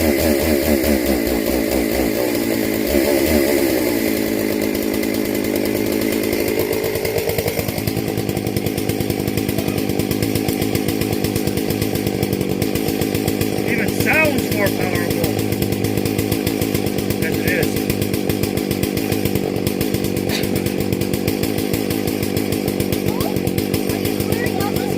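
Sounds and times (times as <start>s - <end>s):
chainsaw cutting: 0.0s - 24.9s.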